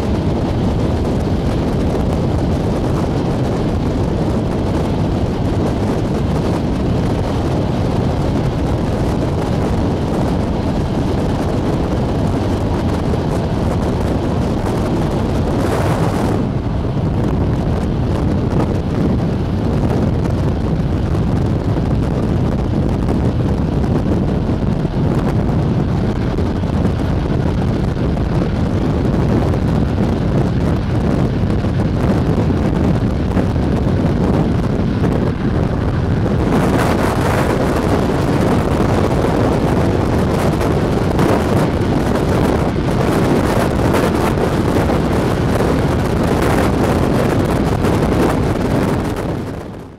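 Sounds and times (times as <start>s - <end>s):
wind rushing on microphone: 0.0s - 49.9s.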